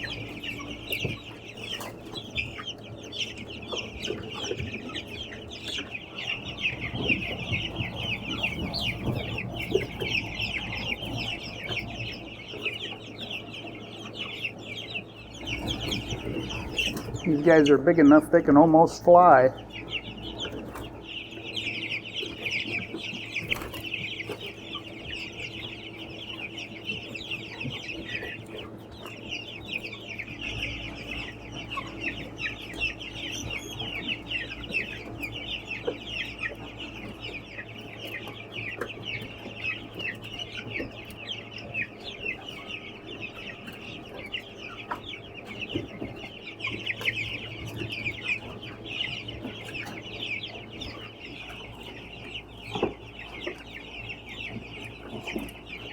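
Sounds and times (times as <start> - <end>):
young chickens chirping: 0.0 - 55.9.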